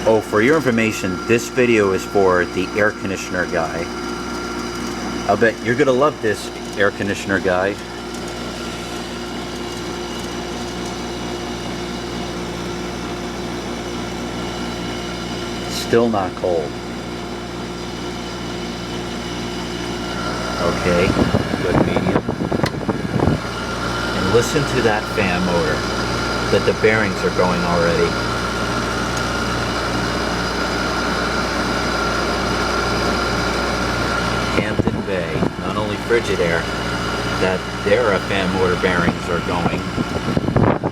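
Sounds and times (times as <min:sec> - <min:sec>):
window air conditioner humming: 0:00.0 - 0:40.9.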